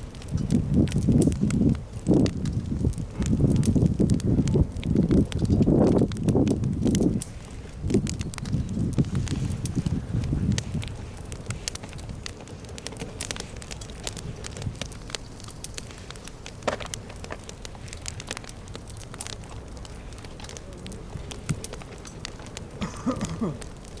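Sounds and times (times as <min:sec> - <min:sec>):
campfire crackling: 0:00.0 - 0:24.0
sharp pops of fire: 0:00.0 - 0:24.0.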